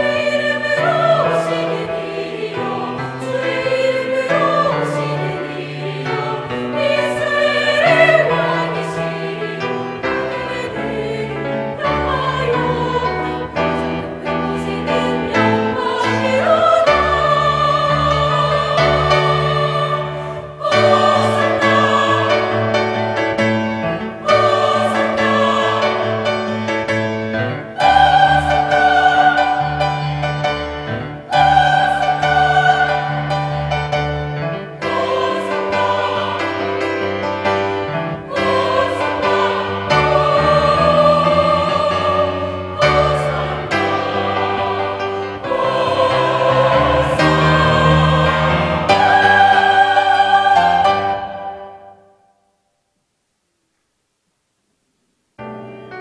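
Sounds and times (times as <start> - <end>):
choir singing held chords: 0.0 - 52.6.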